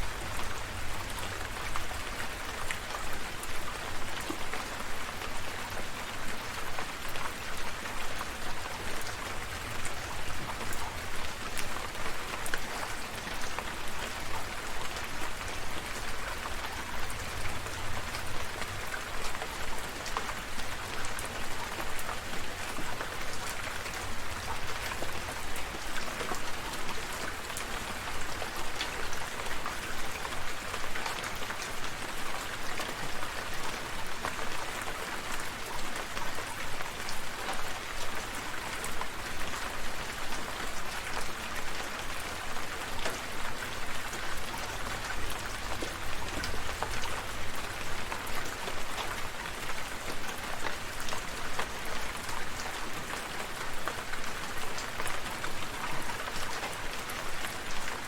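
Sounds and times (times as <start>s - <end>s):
rain falling: 0.0s - 58.0s
raindrops ticking close by: 0.1s - 58.0s.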